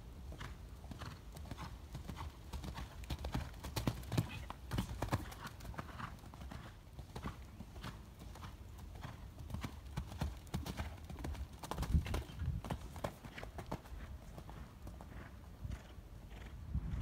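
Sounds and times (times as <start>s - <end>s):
horse hoofbeats on sand: 0.3s - 17.0s.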